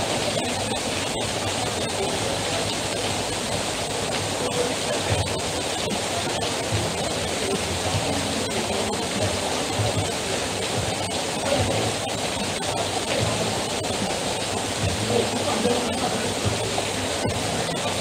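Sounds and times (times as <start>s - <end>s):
heavy rain falling: 0.0s - 18.0s
runoff pouring off canopy: 0.0s - 18.0s.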